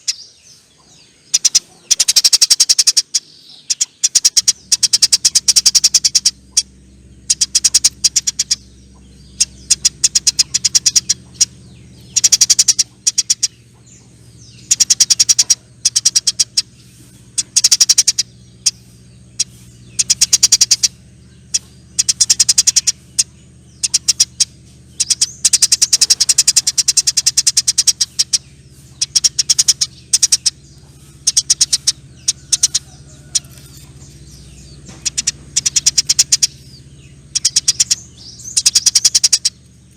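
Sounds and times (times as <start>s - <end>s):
faint low hum: 0.0s - 39.9s
sparrow chattering: 0.0s - 39.9s.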